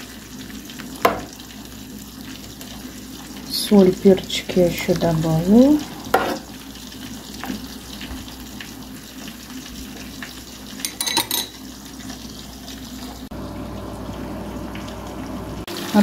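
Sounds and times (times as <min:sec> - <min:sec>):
fish frying in pan: 0:00.0 - 0:16.0
soup boiling in pot: 0:00.0 - 0:16.0.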